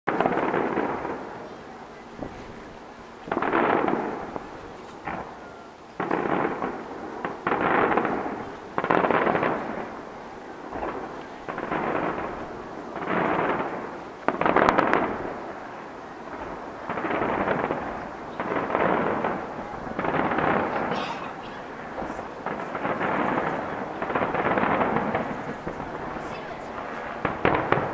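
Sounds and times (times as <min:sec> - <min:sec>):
distant firework booms: 0:00.1 - 0:27.9
sharp firework cracks: 0:00.1 - 0:27.9.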